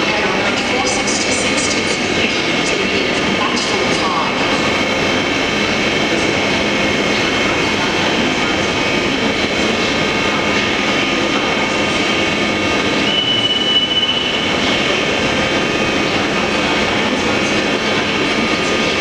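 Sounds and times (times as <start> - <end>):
locomotive fans humming and whining: 0.0 - 19.0.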